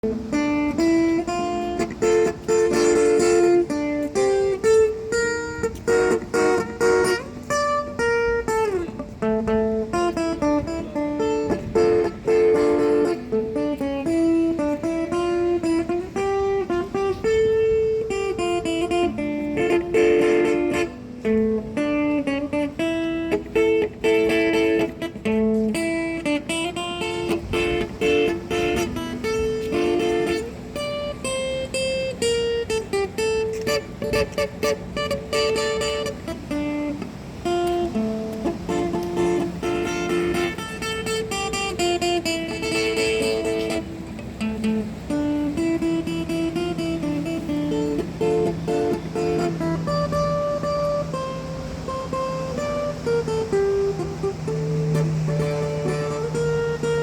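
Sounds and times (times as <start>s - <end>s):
guitar playing picked melody: 0.0s - 57.0s.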